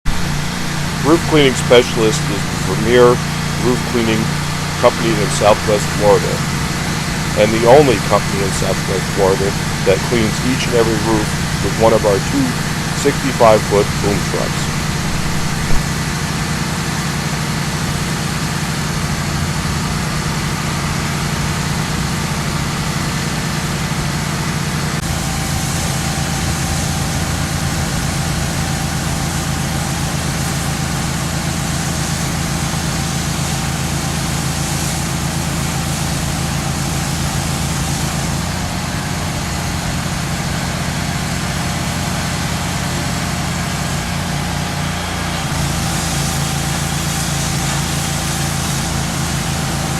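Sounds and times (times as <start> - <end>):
truck engine running: 0.0 - 49.9.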